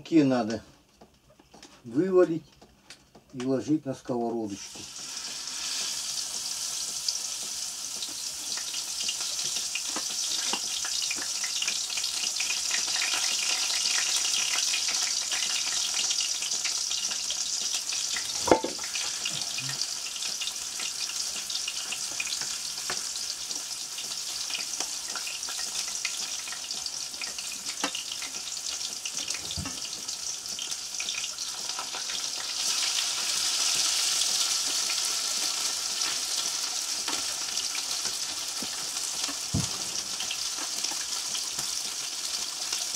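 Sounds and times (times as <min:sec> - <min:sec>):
fish sizzling in hot oil: 0:04.4 - 0:42.9.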